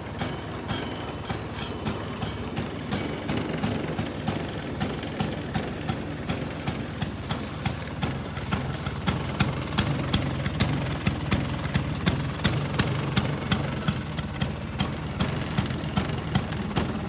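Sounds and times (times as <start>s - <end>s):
scooter engine idling with pops: 0.0s - 17.0s.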